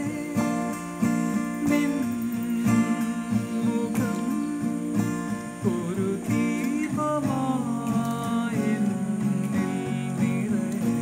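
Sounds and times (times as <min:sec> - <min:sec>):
acoustic guitar chords strummed: 0:00.0 - 0:11.0.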